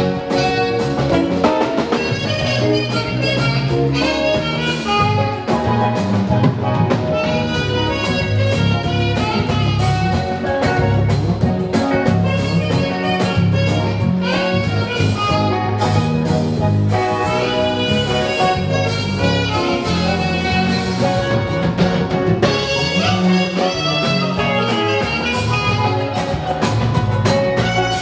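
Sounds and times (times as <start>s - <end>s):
bass line: 0.0s - 28.0s
drum kit steady beat: 0.0s - 28.0s
saxophone playing lively melody: 0.0s - 28.0s.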